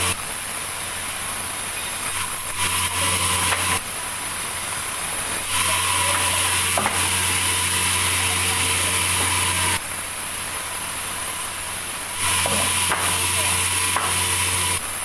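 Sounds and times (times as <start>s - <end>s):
sawmill saw cutting log: 0.0s - 0.4s, 1.8s - 10.0s, 10.7s - 15.0s.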